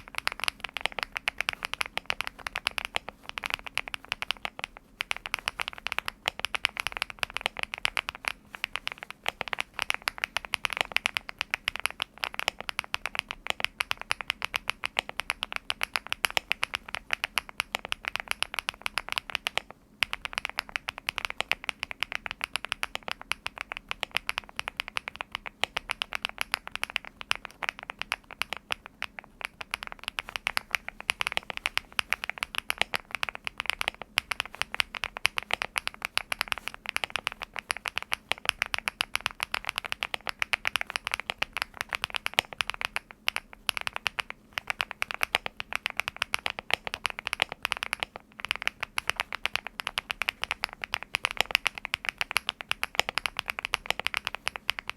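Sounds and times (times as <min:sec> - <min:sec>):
mechanical keyboard typing: 0:00.0 - 0:54.9.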